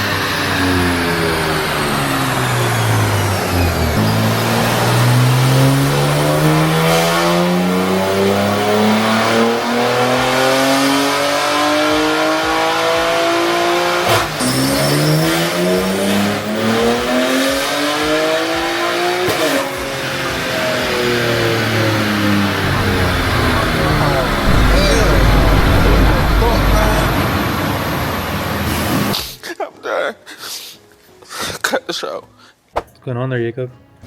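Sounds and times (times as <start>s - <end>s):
car engine at full throttle: 0.0s - 29.4s.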